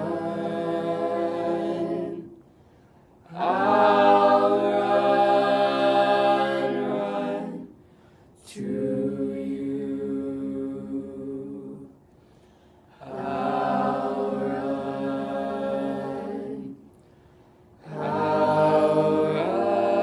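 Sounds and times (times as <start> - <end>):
a cappella group singing chords: 0.0 - 20.0.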